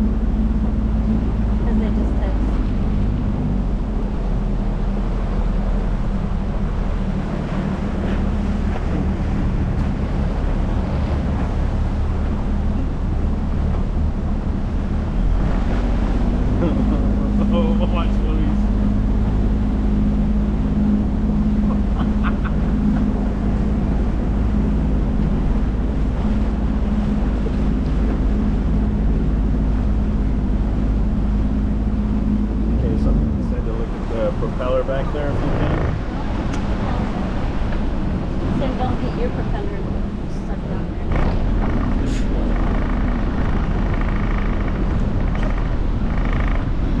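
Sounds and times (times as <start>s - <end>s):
rushing water: 0.0s - 47.0s
speedboat motor running: 0.0s - 47.0s
wind buffeting microphone: 0.0s - 47.0s.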